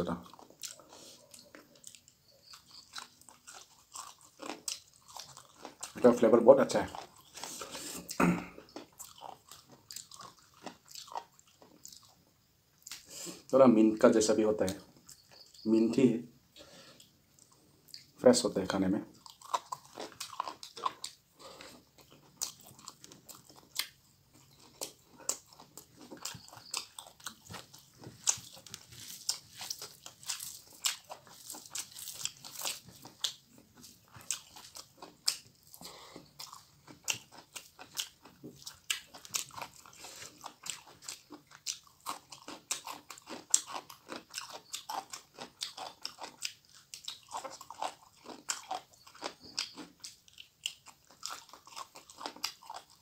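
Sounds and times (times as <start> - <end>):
person chewing and crunching: 0.0 - 15.9, 16.5 - 53.0.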